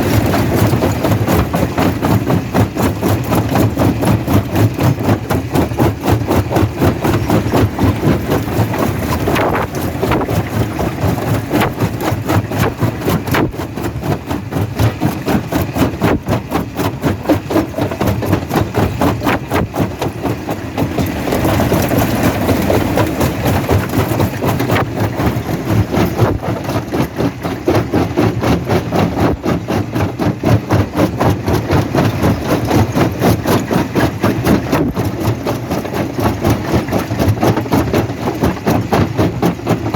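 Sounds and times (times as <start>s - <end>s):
rock crusher pulsing: 0.0s - 39.9s.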